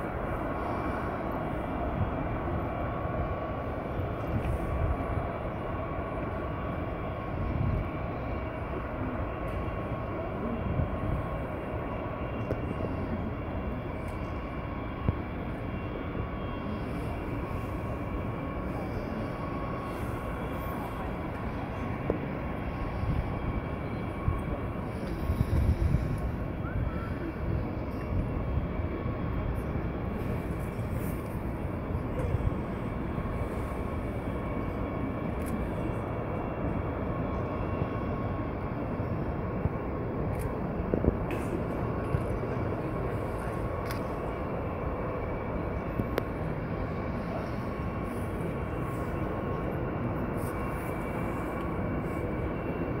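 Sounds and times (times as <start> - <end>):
distant jet engines rumbling: 0.0 - 53.0
faint engine whine: 0.0 - 53.0.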